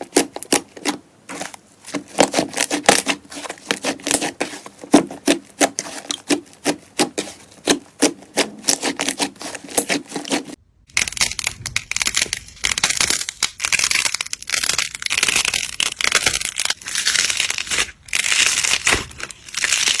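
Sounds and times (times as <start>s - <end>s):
crunchy slime crackling: 0.0s - 20.0s.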